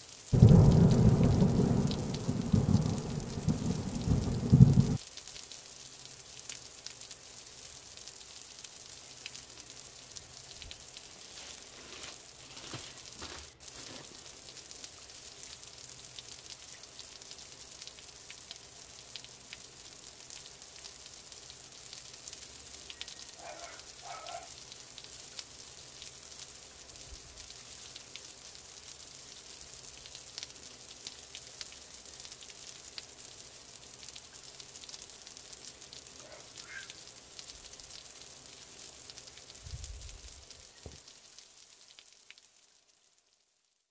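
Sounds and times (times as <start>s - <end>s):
faint steady hiss: 0.0s - 43.9s
light crackles: 0.1s - 43.5s.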